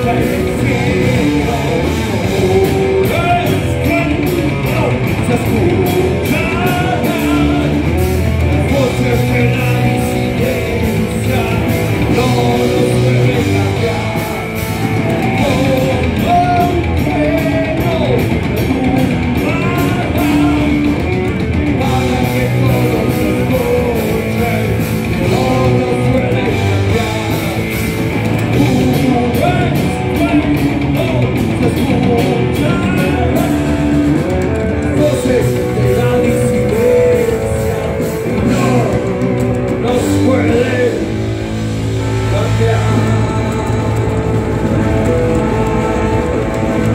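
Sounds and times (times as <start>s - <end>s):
person singing: 0.0s - 46.9s
thrash metal band playing live: 0.0s - 46.9s.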